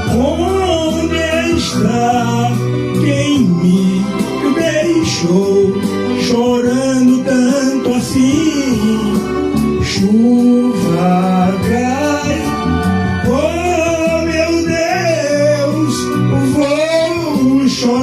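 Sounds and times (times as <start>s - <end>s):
instrumental backing music: 0.0s - 18.0s
man singing slow romantic song: 0.0s - 18.0s.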